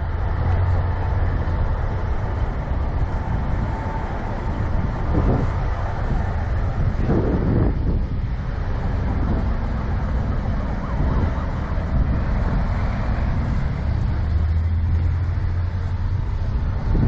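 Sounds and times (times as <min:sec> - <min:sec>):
deep engine hum: 0:00.0 - 0:17.0
vehicle engines rumbling: 0:00.0 - 0:17.0.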